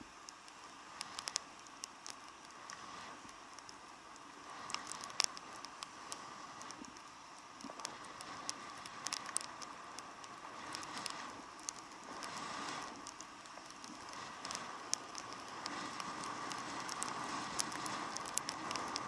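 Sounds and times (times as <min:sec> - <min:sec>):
raindrops ticking on camera: 0:00.0 - 0:19.0.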